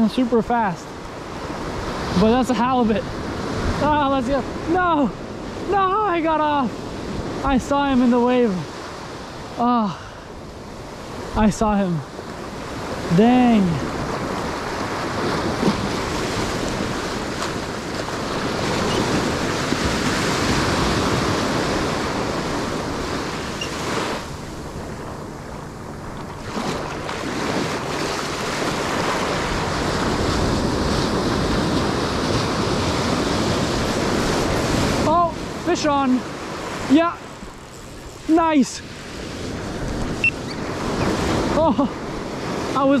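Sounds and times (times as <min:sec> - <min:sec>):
surf washing up a sandy beach: 0:00.0 - 0:43.0
wind buffeting the microphone: 0:01.0 - 0:09.6, 0:10.3 - 0:43.0.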